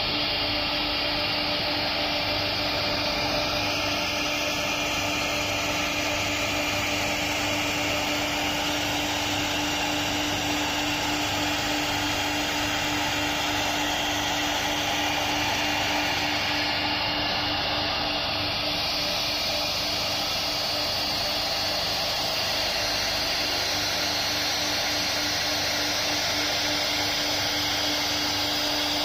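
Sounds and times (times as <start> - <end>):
cnc router carving wood: 0.0 - 29.0.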